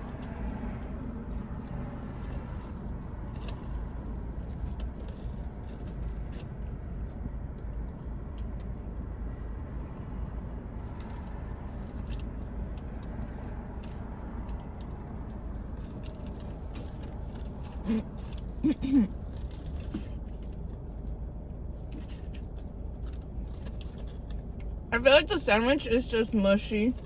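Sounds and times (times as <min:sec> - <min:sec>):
small clicks and crunches: 0:00.0 - 0:08.8, 0:10.8 - 0:24.9, 0:26.6 - 0:27.0
close-up chewing: 0:00.0 - 0:09.1, 0:10.7 - 0:24.9
car low rumble: 0:00.0 - 0:27.0.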